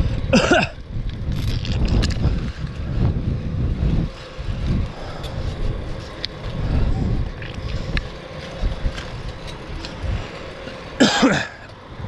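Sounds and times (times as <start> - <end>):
bicycle tyre rumble: 0.0 - 12.0
wind buffeting microphone: 0.0 - 12.0.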